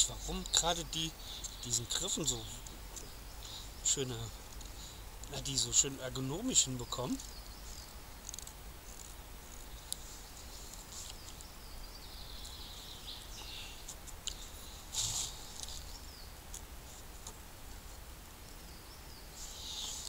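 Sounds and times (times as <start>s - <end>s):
birds singing: 0.0s - 16.4s, 18.4s - 20.0s.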